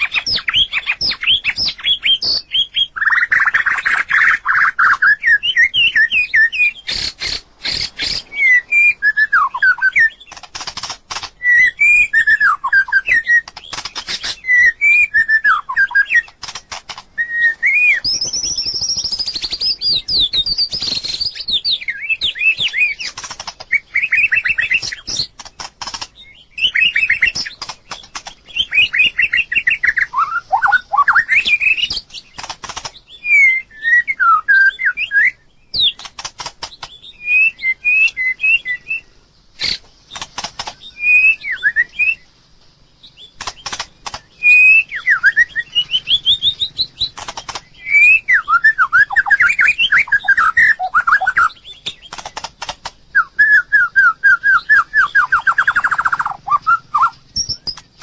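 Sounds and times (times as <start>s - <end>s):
bird sharp clicks: 0.0s - 8.3s, 9.5s - 33.4s, 34.7s - 39.0s, 39.6s - 58.0s
bird whistling song: 0.0s - 42.4s, 43.0s - 58.0s.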